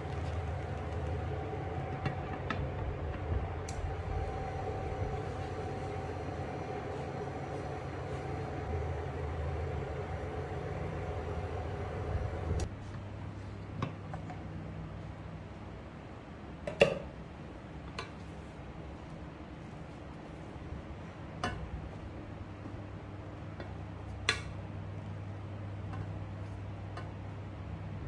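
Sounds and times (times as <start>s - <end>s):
induction hob humming: 0.0s - 15.8s, 16.7s - 28.0s.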